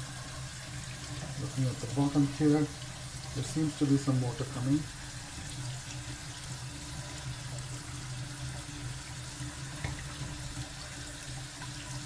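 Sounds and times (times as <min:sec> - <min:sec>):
faucet water running into sink: 0:00.0 - 0:12.0.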